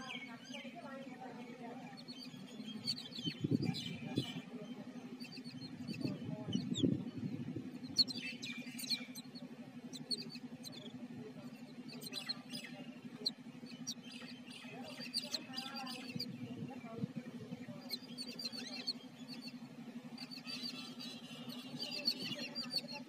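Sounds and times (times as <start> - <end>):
babblers chirping: 0.0 - 23.0
steady low hum: 0.0 - 23.0.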